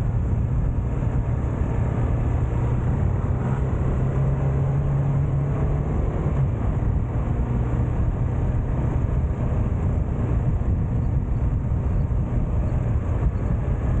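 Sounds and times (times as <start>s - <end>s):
wind noise rumble: 0.0s - 14.0s.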